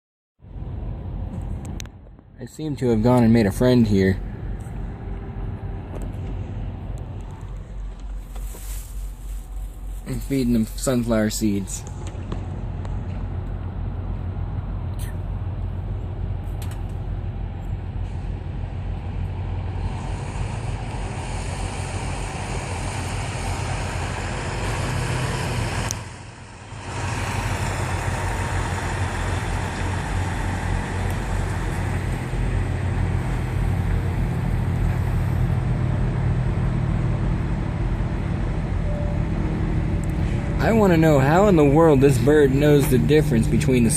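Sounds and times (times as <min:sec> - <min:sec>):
truck engines idling: 0:00.5 - 0:43.9.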